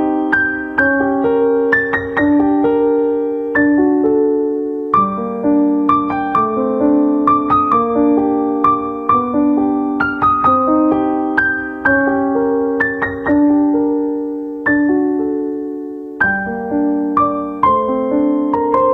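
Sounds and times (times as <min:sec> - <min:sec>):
gentle piano melody: 0:00.0 - 0:18.9.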